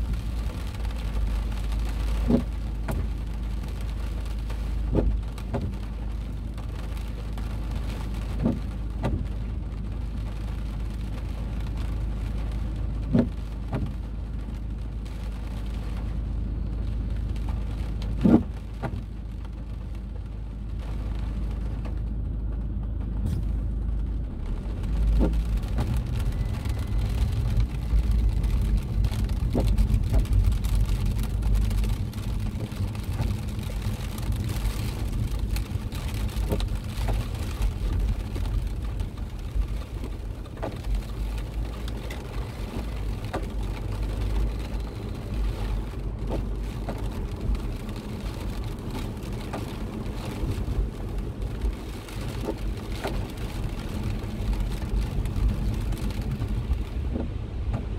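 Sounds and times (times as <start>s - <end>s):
rain falling on car: 0.0s - 57.9s.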